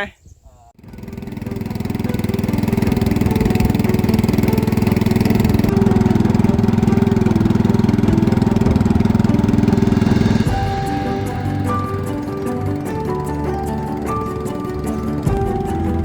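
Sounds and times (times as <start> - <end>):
small engine running: 0.8 - 16.0.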